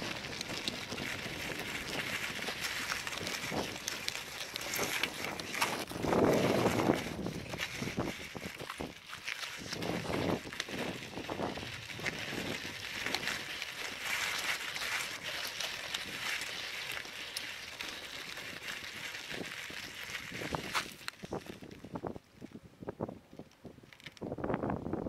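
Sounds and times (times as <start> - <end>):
bicycle tyres crunching on gravel: 0.0 - 24.8.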